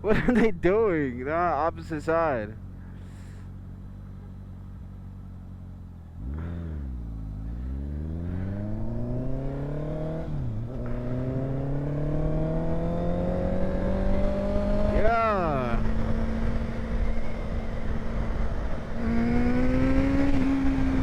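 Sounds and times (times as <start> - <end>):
motorcycle engine revving: 3.1 - 21.0.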